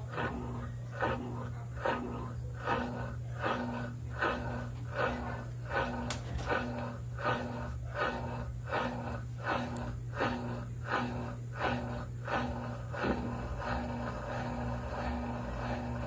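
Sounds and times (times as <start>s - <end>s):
steady motor hum: 0.0s - 16.0s
washing machine agitator churning: 0.0s - 16.0s.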